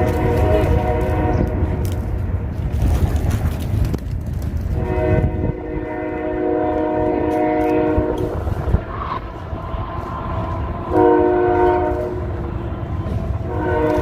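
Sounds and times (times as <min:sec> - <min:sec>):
long horn blast: 0:00.0 - 0:02.1, 0:04.8 - 0:14.0
wind buffeting microphone: 0:00.0 - 0:14.0.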